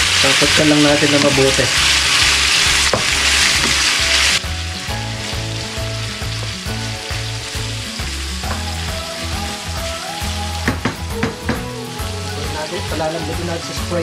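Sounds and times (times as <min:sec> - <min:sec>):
background music: 0:00.0 - 0:14.0
gizzards sizzling in a pan: 0:00.0 - 0:14.0.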